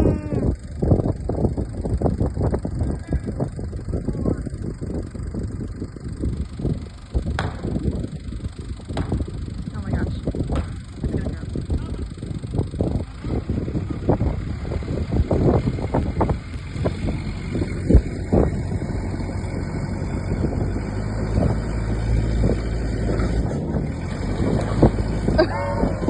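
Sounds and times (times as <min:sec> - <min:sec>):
backhoe engine under load: 0:00.0 - 0:26.0.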